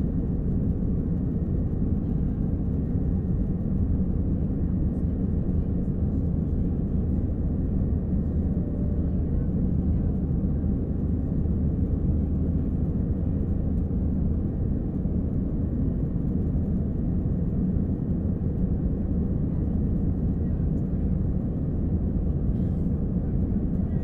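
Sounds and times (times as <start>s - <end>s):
airplane engine rumble: 0.0s - 24.0s.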